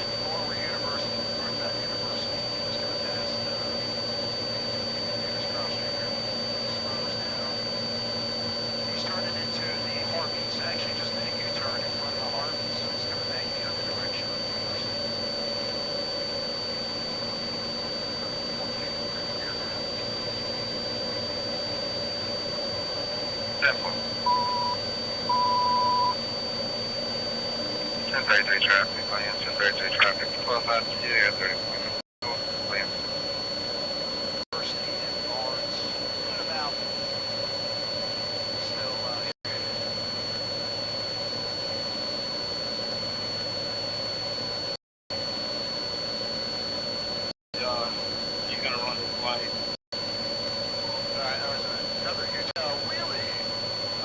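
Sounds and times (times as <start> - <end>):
thin high whine: 0.0 - 44.6, 45.2 - 54.0
helicopter engine and rotors drone: 0.0 - 54.0.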